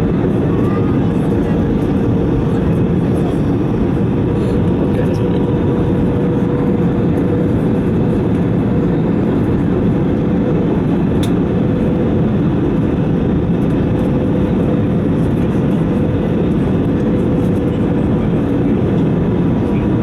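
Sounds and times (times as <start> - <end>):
aircraft cabin engine and airflow noise: 0.0 - 20.0.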